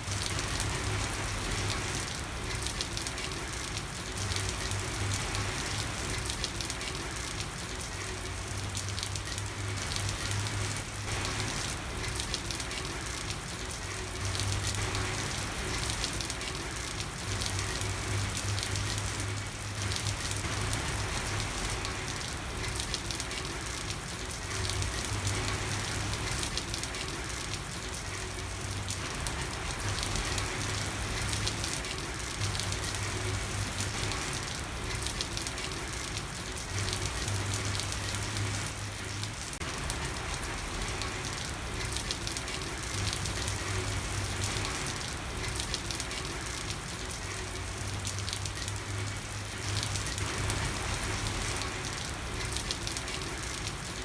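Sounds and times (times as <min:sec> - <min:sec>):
rain pattering on street: 0:00.0 - 0:54.0.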